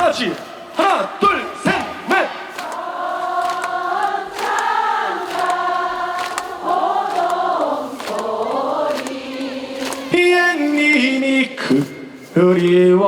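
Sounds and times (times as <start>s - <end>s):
backing music: 0.0s - 11.9s
crowd singing in unison: 0.0s - 12.7s.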